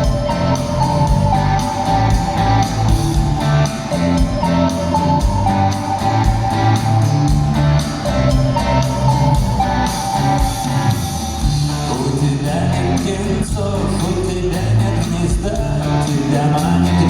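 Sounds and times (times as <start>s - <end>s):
steady drum beat: 0.0s - 14.1s, 15.3s - 17.0s
electric guitar melody: 0.0s - 14.4s
bass guitar: 0.0s - 17.0s.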